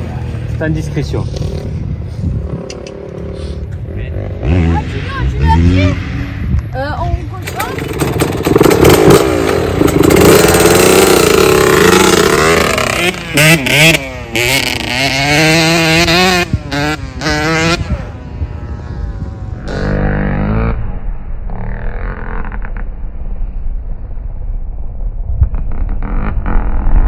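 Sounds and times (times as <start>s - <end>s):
dirt bike engine revving: 1.2s - 23.0s, 25.5s - 27.0s.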